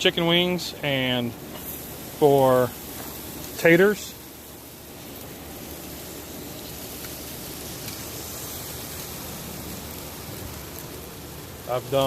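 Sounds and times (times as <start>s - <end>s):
chicken wings sizzling on grill: 0.0s - 12.0s.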